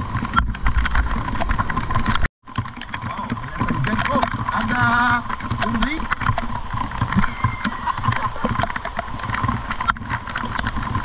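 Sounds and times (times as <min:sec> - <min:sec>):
road noise: 0:00.0 - 0:11.0
scooter engine hum: 0:00.0 - 0:11.0
wind on microphone: 0:00.0 - 0:11.0.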